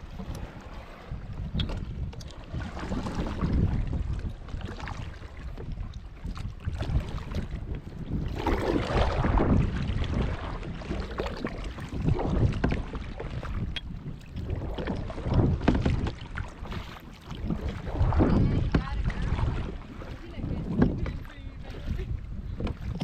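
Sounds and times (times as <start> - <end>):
paddle swishing through water: 0.0 - 23.0
wind buffeting microphone: 0.0 - 23.0.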